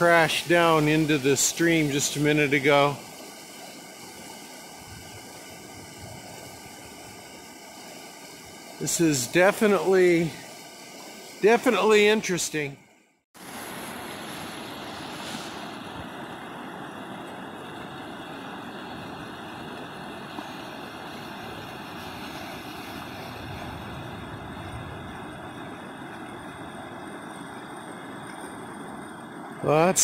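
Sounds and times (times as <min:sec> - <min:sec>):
floodwater rushing: 0:00.0 - 0:12.8, 0:13.4 - 0:30.0.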